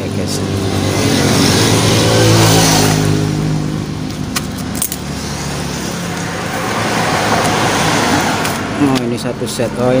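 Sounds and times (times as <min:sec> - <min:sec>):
vehicle engine hum: 0:00.0 - 0:10.0.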